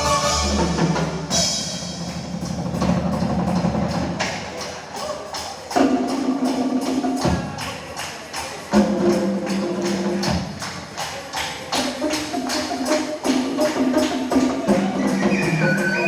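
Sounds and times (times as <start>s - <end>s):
percussive beat: 0.0s - 16.0s.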